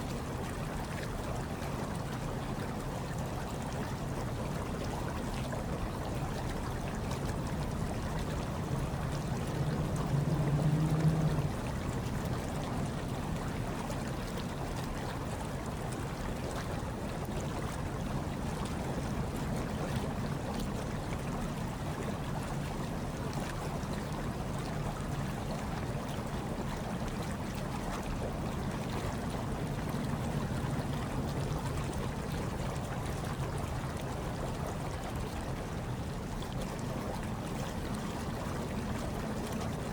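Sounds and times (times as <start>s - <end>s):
hot tub water churning: 0.0s - 39.9s.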